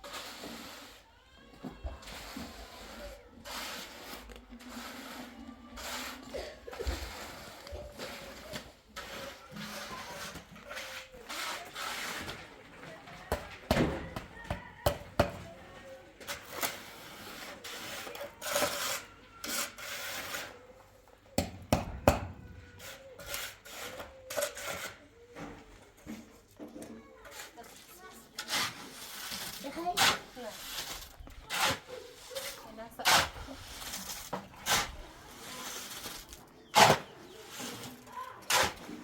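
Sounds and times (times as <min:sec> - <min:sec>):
tool scraping wet mortar: 0:00.0 - 0:01.0, 0:02.0 - 0:15.6, 0:16.2 - 0:20.8, 0:21.4 - 0:26.3, 0:27.2 - 0:39.0.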